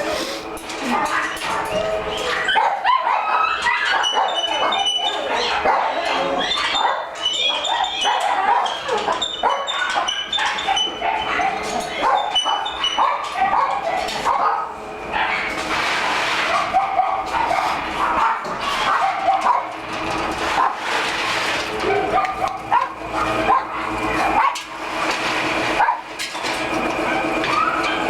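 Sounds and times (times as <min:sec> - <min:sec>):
dogs barking and whining: 0:00.0 - 0:28.0.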